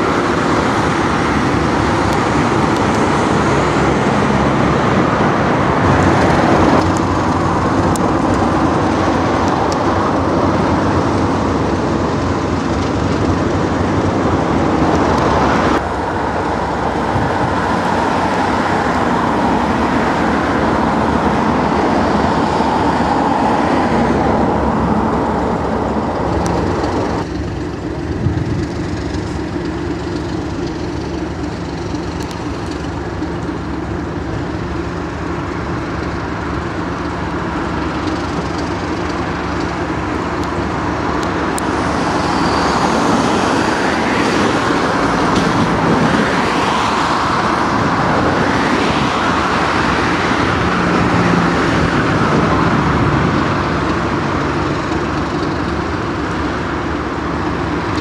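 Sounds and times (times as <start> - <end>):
diesel locomotives idling: 0.0 - 58.0.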